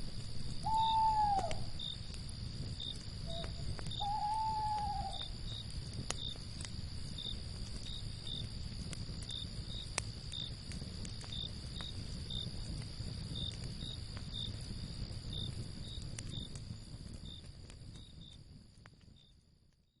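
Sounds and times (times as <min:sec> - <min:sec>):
cricket trilling: 0:00.0 - 0:18.4
campfire crackling: 0:00.0 - 0:19.8
cricket chirping: 0:00.0 - 0:20.0.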